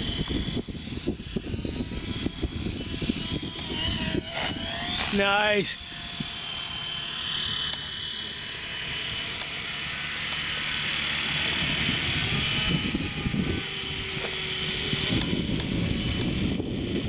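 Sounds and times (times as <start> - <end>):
model helicopter engine whining: 0.0 - 17.0
rotor blades whooshing: 0.0 - 17.0.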